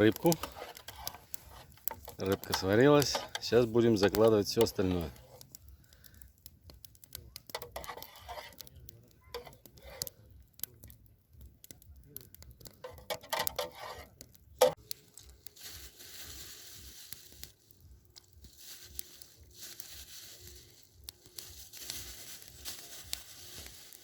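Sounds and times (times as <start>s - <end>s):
campfire crackling and hissing: 0.0s - 24.0s
fire pops and cracks: 0.0s - 24.0s.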